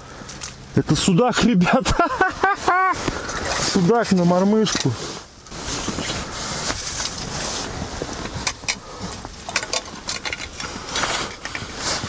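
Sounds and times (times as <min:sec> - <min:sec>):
rustling handling noise: 0:02.3 - 0:12.0.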